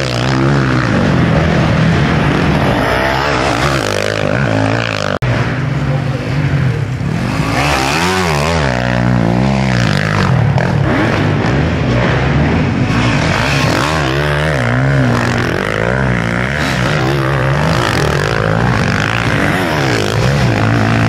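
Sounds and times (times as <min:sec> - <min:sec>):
motocross bikes revving: 0:00.0 - 0:21.0.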